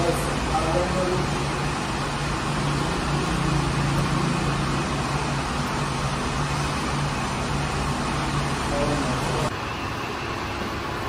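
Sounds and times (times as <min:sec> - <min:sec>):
bread oven running: 0:00.0 - 0:11.0.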